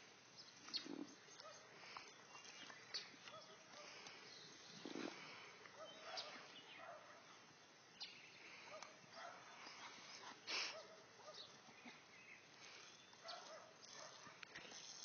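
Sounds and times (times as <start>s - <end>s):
garden hose hiss: 0.0s - 15.0s.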